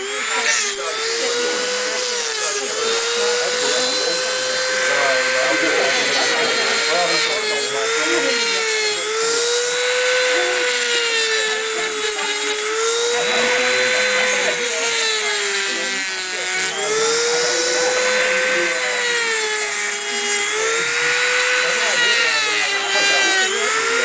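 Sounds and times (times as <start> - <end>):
rotary tool grinding rock: 0.0 - 24.0.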